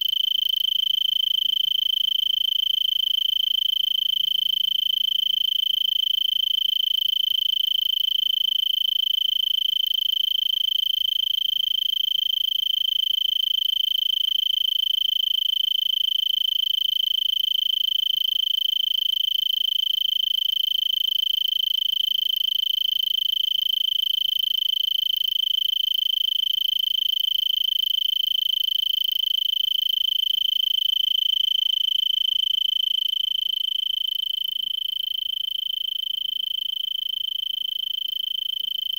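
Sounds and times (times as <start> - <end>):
tree cricket trilling: 0.0 - 38.9.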